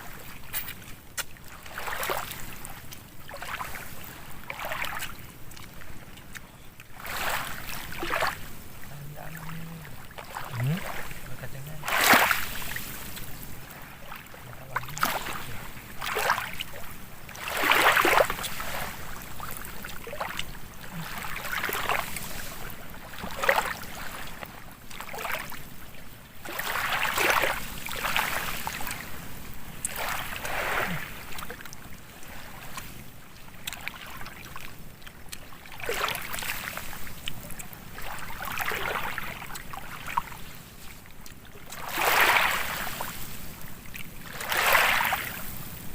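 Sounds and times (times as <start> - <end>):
small waves lapping and splashing: 0.0 - 45.9.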